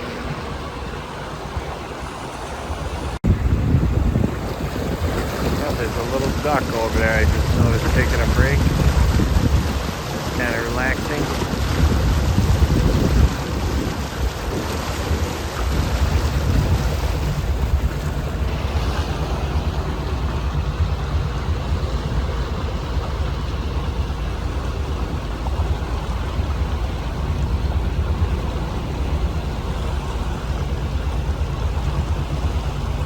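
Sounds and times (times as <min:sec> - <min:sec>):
boat engine rumbling: 0:00.0 - 0:33.0
wind: 0:00.0 - 0:33.0.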